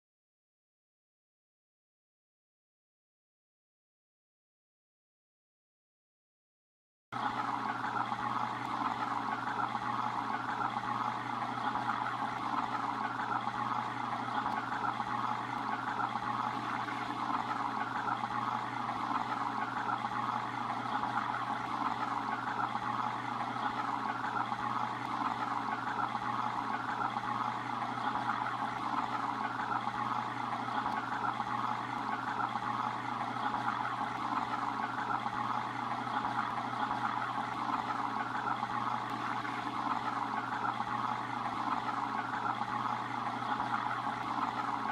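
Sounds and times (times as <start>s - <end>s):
water rushing in fish tank: 7.2s - 44.9s.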